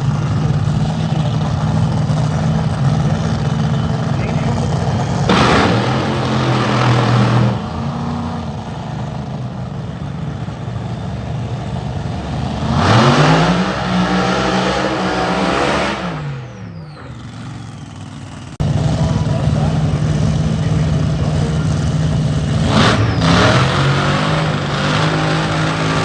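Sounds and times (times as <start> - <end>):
drag racing car engine revving: 0.0 - 26.0.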